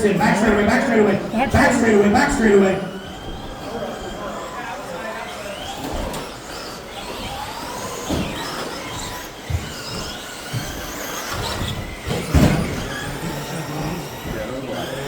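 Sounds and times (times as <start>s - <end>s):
electric motor whines: 0.2s - 15.0s.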